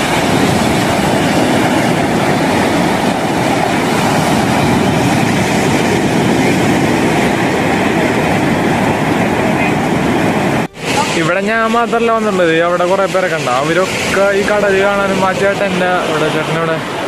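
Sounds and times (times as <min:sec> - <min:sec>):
waves breaking over rocks: 0:00.0 - 0:17.0.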